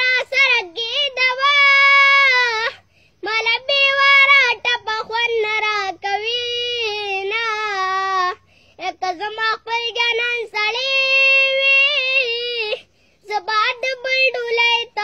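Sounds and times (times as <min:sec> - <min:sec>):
boy singing: 0:00.0 - 0:15.0.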